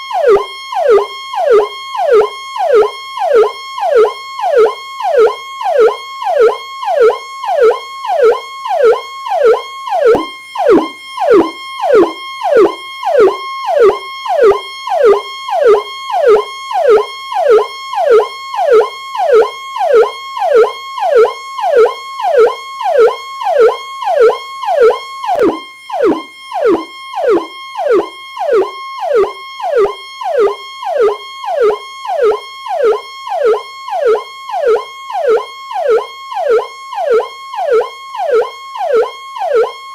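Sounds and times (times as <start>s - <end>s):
police siren cycling: 0.0s - 39.9s.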